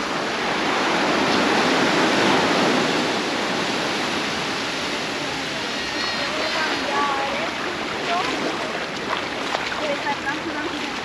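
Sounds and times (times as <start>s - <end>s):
wave breaking on beach: 0.0s - 11.0s.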